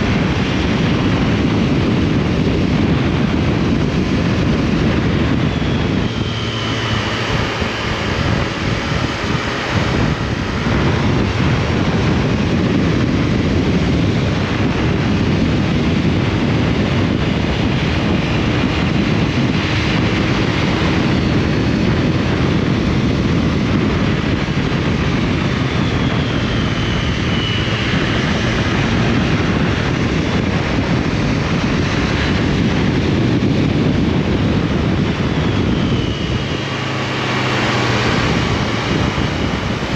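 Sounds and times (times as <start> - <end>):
motorcycle engine under way: 0.0 - 39.9
wind rush on microphone: 0.0 - 39.9.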